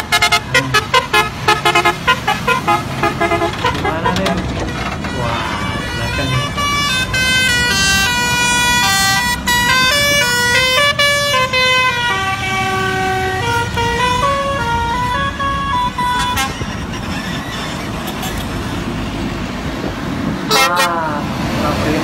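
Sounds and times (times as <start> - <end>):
road noise: 0.0 - 22.0
truck engine rumble: 0.0 - 22.0.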